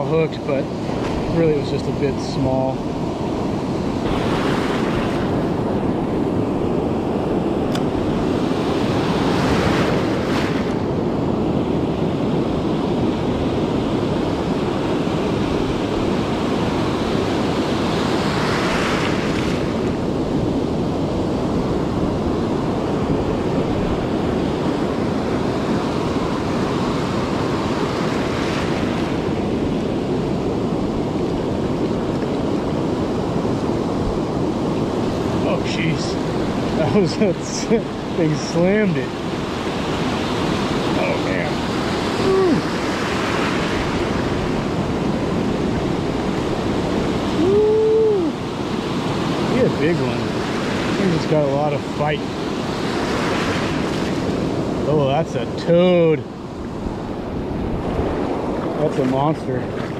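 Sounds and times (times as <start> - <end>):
surf breaking on beach: 0.0 - 59.9
wind on microphone: 0.0 - 59.9.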